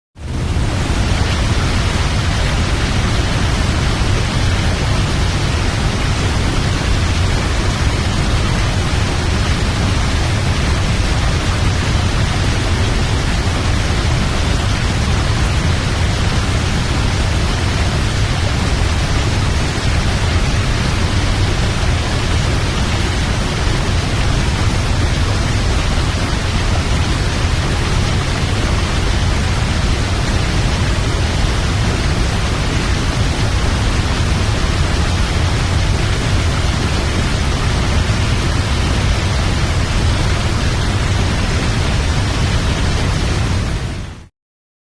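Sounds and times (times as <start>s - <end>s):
waterfall rushing: 0.3s - 44.1s.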